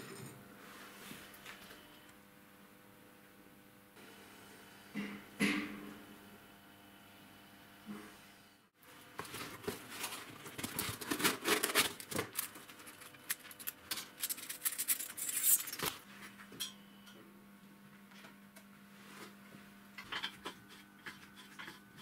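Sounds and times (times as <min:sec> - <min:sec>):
faint steady hum: 0:00.0 - 0:11.0, 0:11.7 - 0:22.0.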